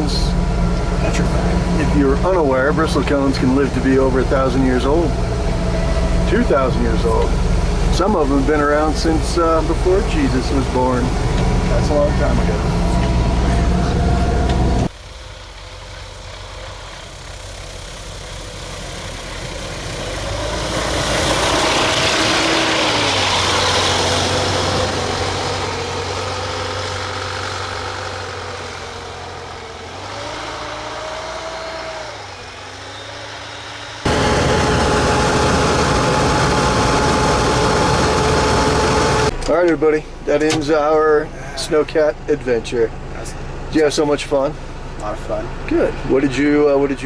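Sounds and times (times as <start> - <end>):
snow vehicle engine drone: 0.0 - 47.0.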